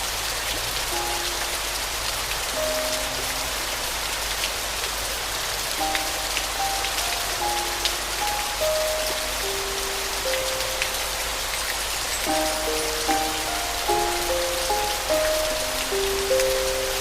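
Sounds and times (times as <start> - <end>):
raindrops ticking: 0.0 - 17.0
slow soft piano melody: 0.0 - 17.0
steady rain: 0.0 - 17.0.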